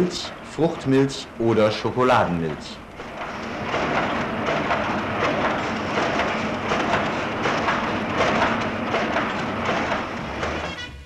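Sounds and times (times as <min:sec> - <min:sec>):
packaging machine clattering and hissing: 0:00.0 - 0:11.0.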